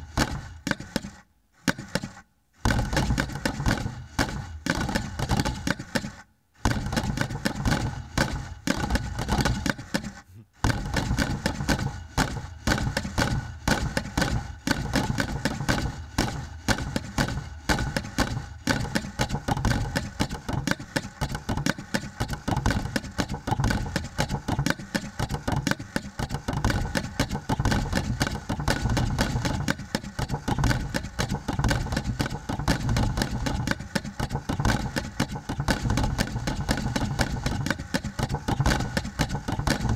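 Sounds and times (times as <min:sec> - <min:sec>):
beaters knocking on wooden boxes: 0:00.0 - 0:39.9.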